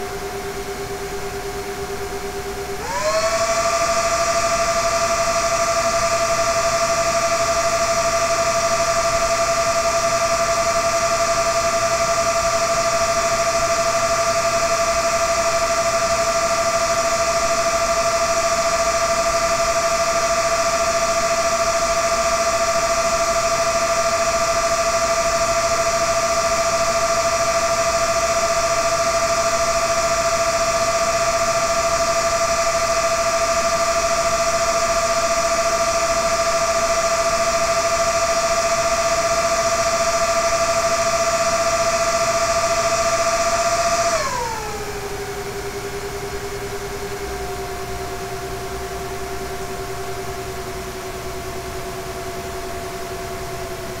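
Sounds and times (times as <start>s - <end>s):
cooling fans whining: 0.0s - 54.0s.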